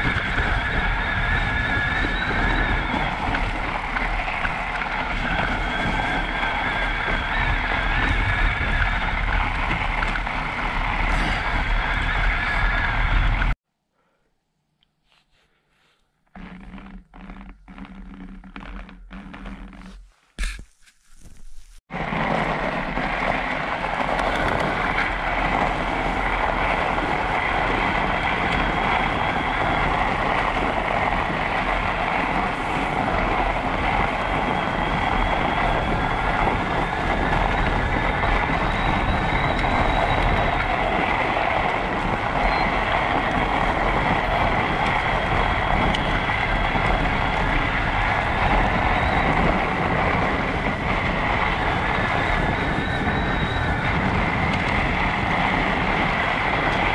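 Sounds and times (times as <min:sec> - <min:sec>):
bike rolling on packed snow: 0:00.0 - 0:13.6, 0:15.8 - 0:56.9.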